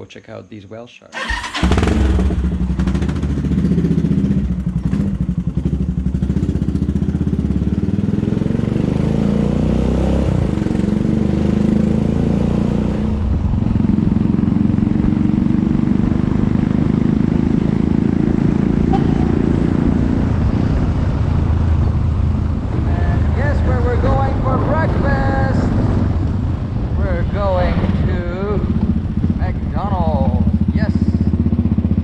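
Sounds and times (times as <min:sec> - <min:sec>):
motorcycle engine running: 0:01.2 - 0:32.0.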